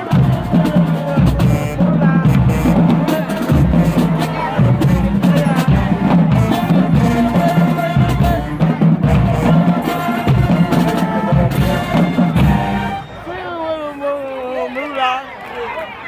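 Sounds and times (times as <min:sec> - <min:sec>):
bass and snare drums beat: 0:00.0 - 0:13.1
brass sustained notes: 0:00.0 - 0:13.6
marching band playing: 0:00.0 - 0:13.6.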